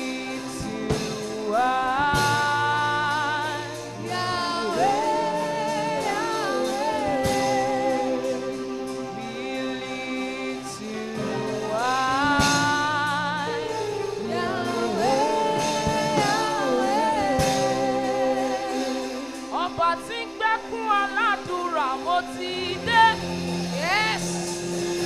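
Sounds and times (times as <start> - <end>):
woman singing into a microphone: 0.0 - 24.4
sustained backing chords: 0.0 - 25.0.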